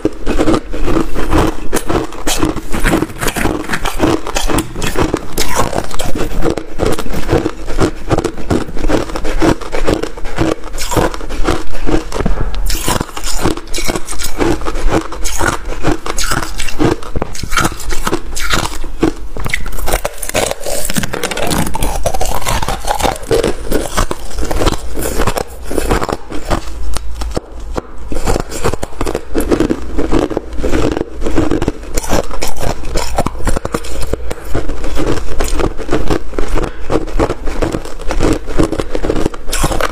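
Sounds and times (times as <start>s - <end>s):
ice crunching when chewed: 0.0s - 39.9s.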